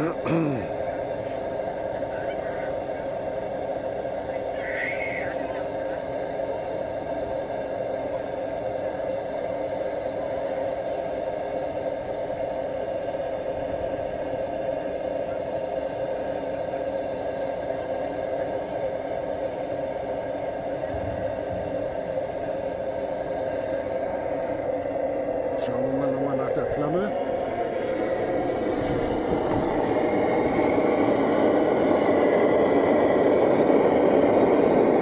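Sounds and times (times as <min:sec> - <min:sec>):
blowtorch flame roaring: 0:00.0 - 0:35.0.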